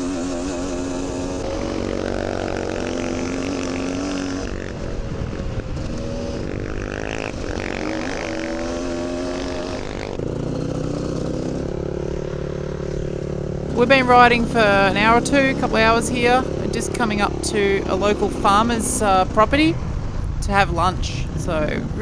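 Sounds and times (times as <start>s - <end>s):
clatter: 0.0s - 19.8s
dirt bike engine revving: 0.0s - 22.0s.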